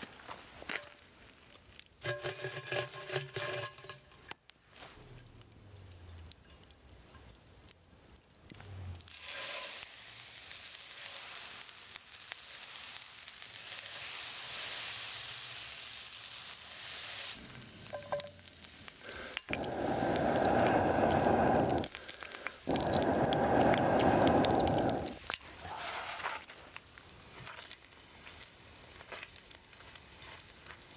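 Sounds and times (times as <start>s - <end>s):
food sizzling on hot stone: 0.6s - 30.9s.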